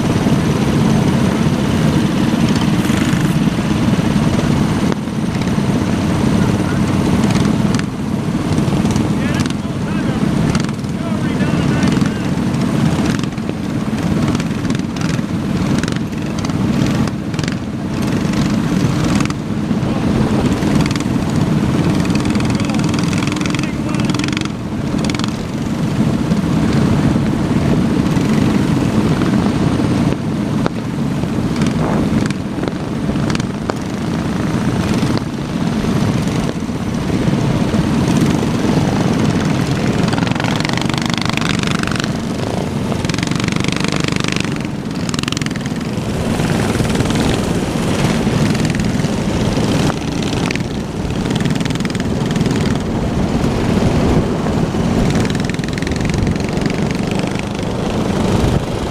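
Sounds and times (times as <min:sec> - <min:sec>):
small engines droning: 0:00.0 - 0:58.9.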